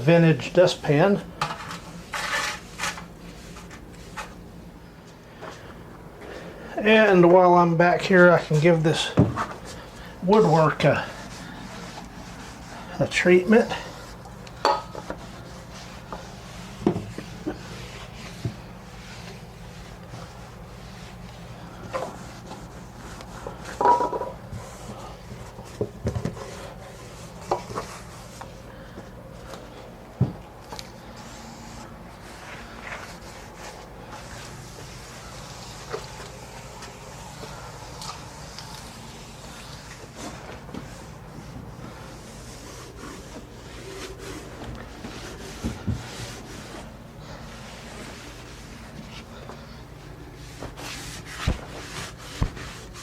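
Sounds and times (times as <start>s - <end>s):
steady low hum: 0.0s - 53.0s
rubbing on wood: 6.9s - 28.7s, 29.3s - 53.0s.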